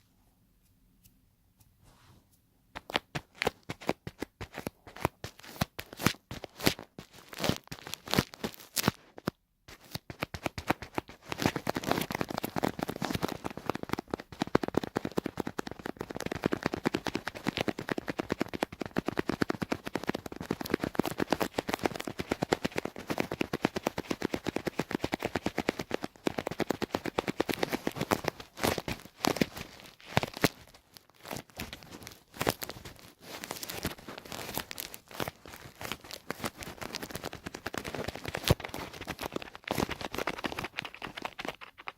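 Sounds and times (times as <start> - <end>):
fast tapping and clicks: 2.8 - 41.9.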